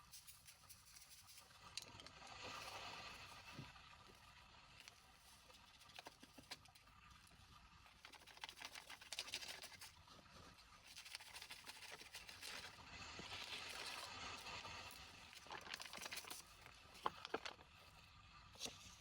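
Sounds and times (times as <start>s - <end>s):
clicking and crunching of sand and shells: 0.0s - 10.0s, 10.6s - 19.0s.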